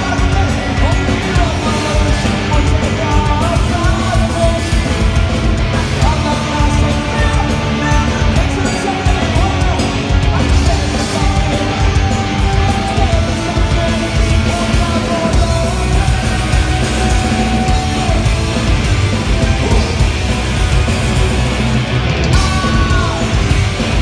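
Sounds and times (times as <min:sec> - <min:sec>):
punk rock band playing live: 0:00.0 - 0:24.0.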